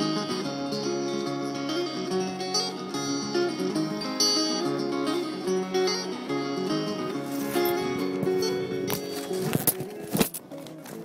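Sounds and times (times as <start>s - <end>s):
plucked-string melody: 0.0s - 11.0s.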